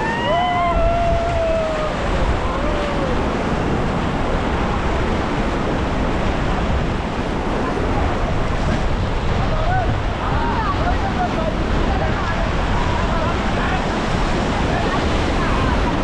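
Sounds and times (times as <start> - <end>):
river rapids rushing: 0.0 - 16.0
wind buffeting microphone: 0.0 - 16.0.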